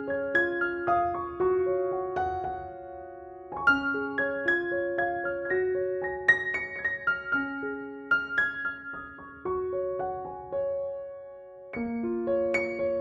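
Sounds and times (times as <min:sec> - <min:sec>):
solo piano melody: 0:00.0 - 0:13.0.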